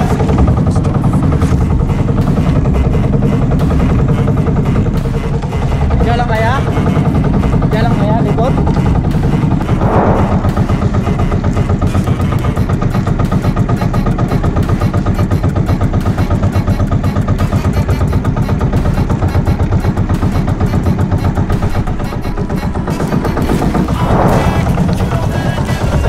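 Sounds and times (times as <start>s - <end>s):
boat engine throbbing: 0.0s - 26.0s.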